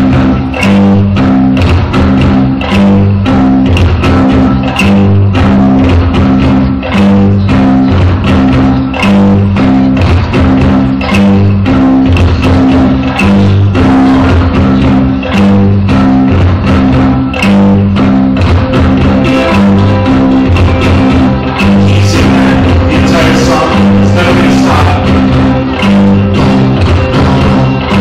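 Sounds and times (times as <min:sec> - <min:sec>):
bass line: 0:00.0 - 0:28.0
drum beat: 0:00.0 - 0:28.0
rock band playing: 0:00.0 - 0:28.0.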